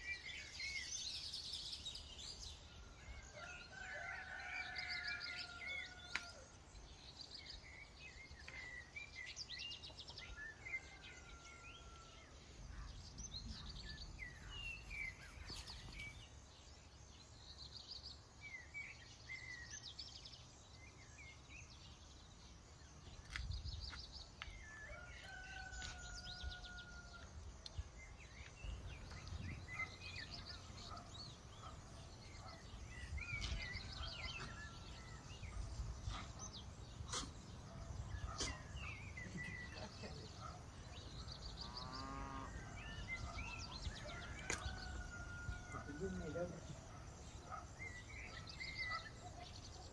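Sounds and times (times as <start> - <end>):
small birds chirping and trilling: 0.0 - 49.9.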